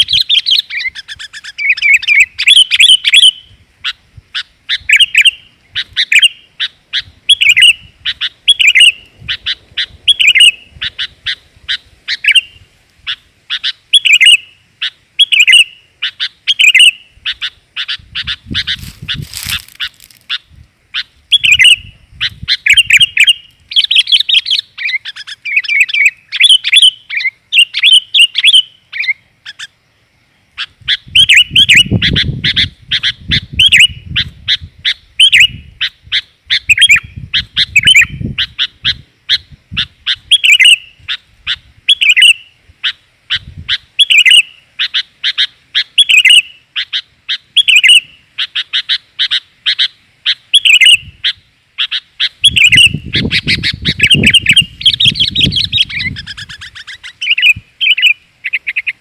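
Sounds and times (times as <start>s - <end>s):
bird chirping chatter: 0.0s - 59.0s.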